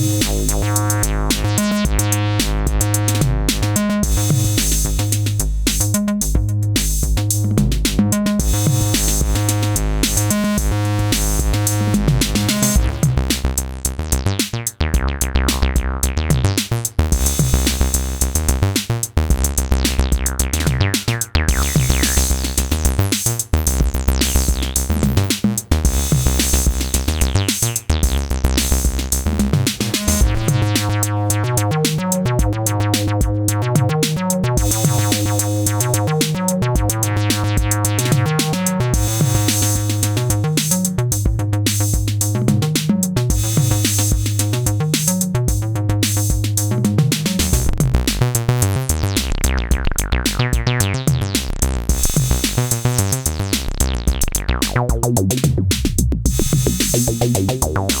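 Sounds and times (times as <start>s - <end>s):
acid bass line: 0.0s - 58.0s
drum machine beat: 0.0s - 58.0s.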